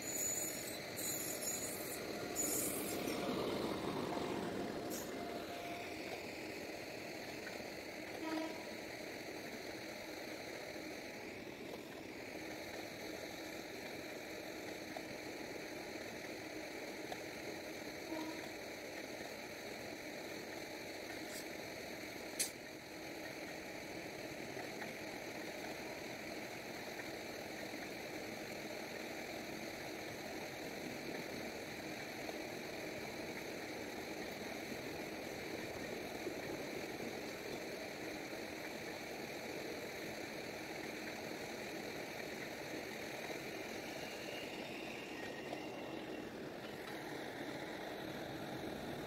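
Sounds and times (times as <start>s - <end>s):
train wheels rolling on track: 0.0s - 49.0s.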